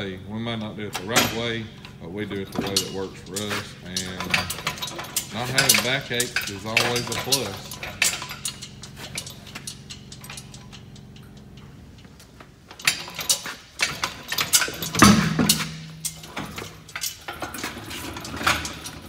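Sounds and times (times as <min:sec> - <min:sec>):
steady low hum: 0:00.0 - 0:19.0
metallic clinks of lug nuts: 0:00.4 - 0:19.0.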